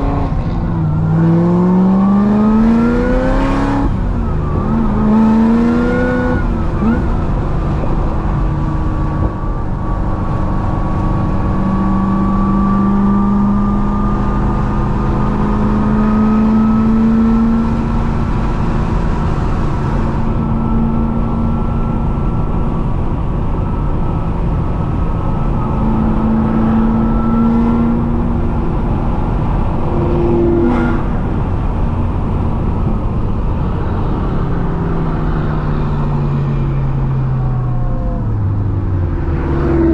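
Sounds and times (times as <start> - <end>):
car engine drone at speed: 0.0 - 39.9.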